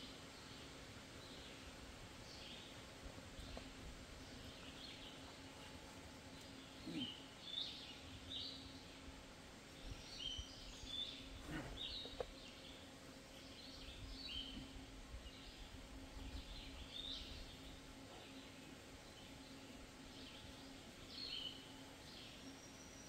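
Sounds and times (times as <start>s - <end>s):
faint low hum: 0.0s - 23.0s
songbirds chirping: 0.0s - 23.0s.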